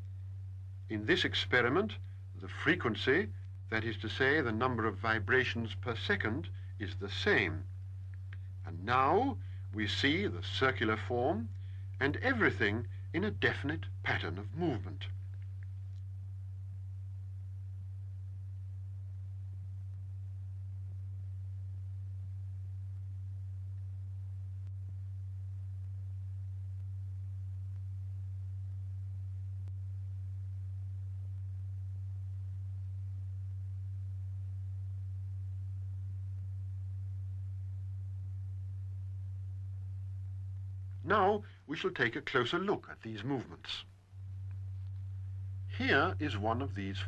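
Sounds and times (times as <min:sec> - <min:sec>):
steady low pure tone: 0:00.0 - 0:47.0.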